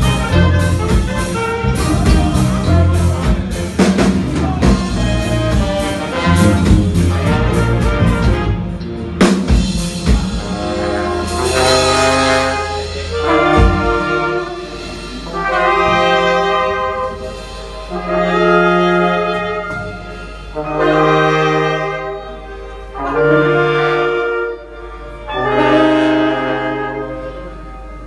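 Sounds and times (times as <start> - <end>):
horn section playing long chords: 0.0 - 28.0.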